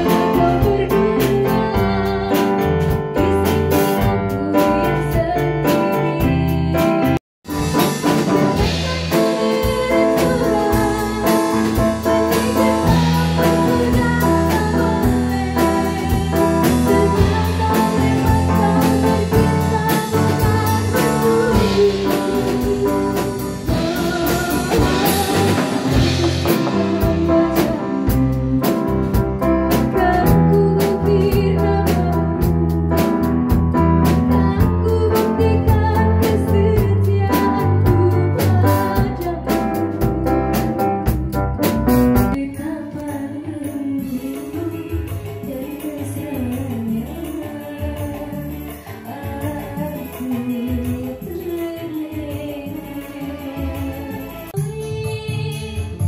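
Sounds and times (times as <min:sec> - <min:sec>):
woman singing into microphone: 0:00.0 - 0:07.2, 0:08.3 - 0:33.2, 0:34.0 - 0:40.5, 0:42.4 - 0:56.0
drum kit: 0:00.0 - 0:56.0
live band playing: 0:00.0 - 0:56.0.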